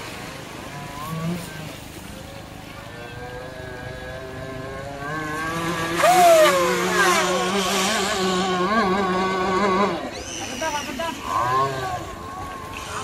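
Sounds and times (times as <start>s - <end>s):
rc speedboat engine running: 0.0s - 13.0s.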